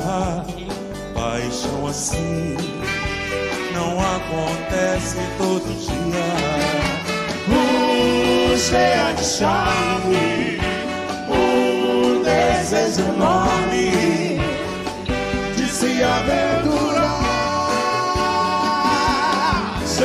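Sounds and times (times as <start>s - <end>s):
bass: 0.0s - 20.0s
congas: 0.0s - 20.0s
drum kit: 0.0s - 20.0s
horn section: 2.8s - 20.0s.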